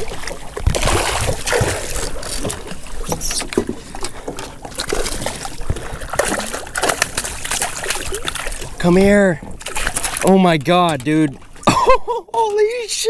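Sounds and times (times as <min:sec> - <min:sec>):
water splashing against boat hull: 0:00.0 - 0:12.9.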